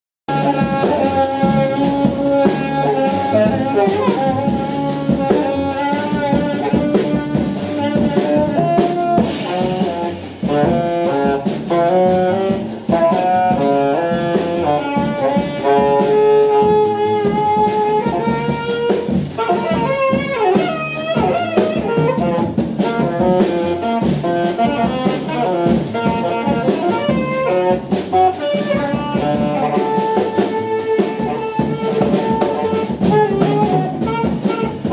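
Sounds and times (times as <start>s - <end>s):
low bass notes: 0.3s - 15.4s, 16.0s - 34.9s
drum kit: 0.3s - 34.9s
saxophone melody: 0.3s - 34.9s.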